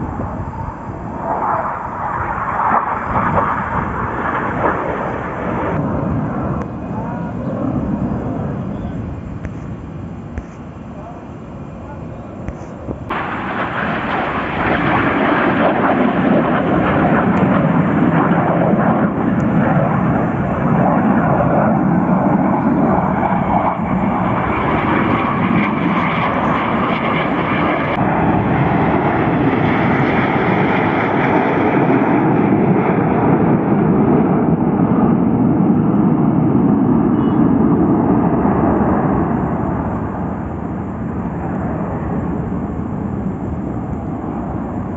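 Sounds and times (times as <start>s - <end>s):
jet aircraft flying past: 0.0s - 44.9s.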